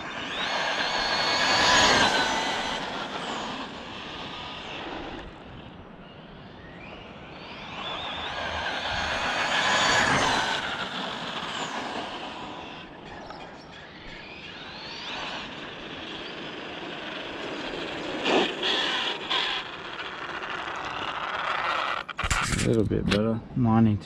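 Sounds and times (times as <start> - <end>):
rc car motor whine: 0.0 - 22.8.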